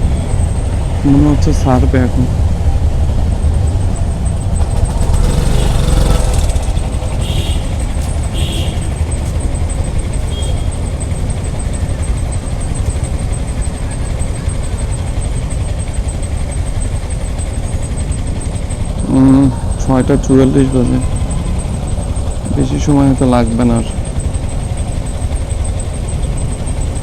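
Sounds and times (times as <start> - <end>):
traffic engines idling: 0.0 - 27.0.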